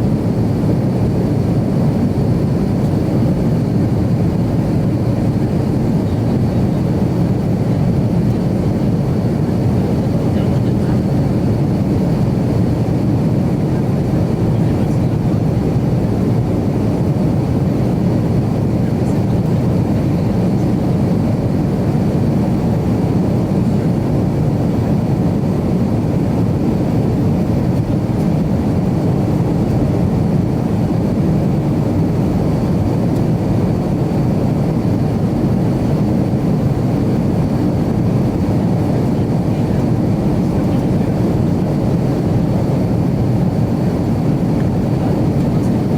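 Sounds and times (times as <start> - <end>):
jet airliner cabin drone: 0.0 - 45.9.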